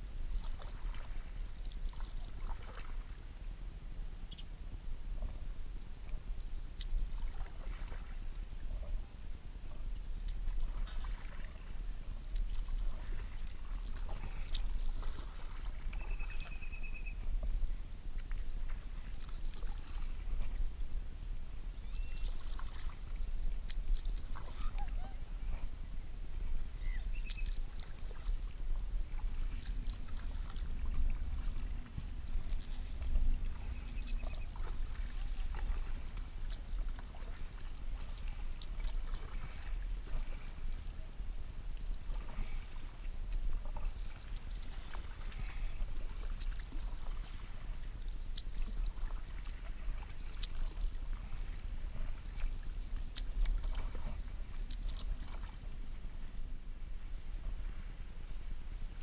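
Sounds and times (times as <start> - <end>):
paddle splashing water: 0.0 - 59.0
steady low rumble: 0.0 - 59.0.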